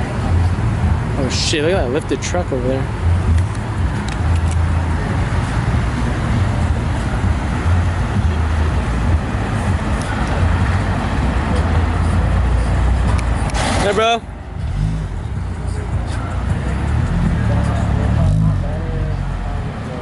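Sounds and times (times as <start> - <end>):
car engines running: 0.0 - 20.0
traffic noise: 0.0 - 20.0.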